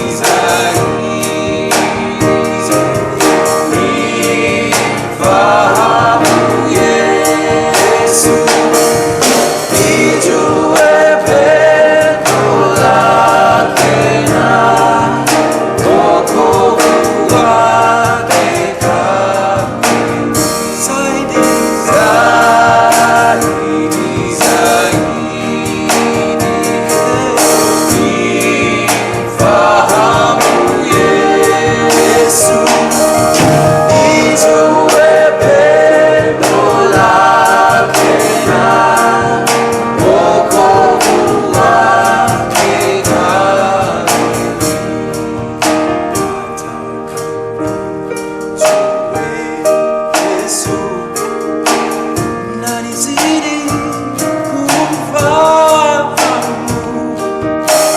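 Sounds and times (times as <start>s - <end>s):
choir singing gospel song: 0.0s - 57.9s.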